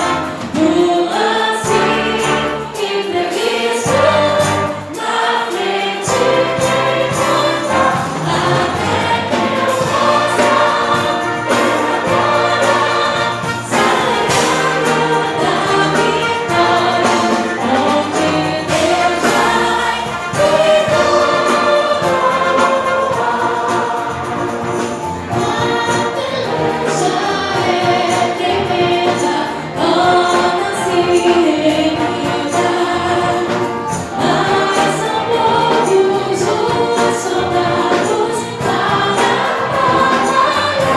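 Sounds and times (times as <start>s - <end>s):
choir singing a hymn: 0.0s - 40.9s
instrumental accompaniment: 0.0s - 40.9s.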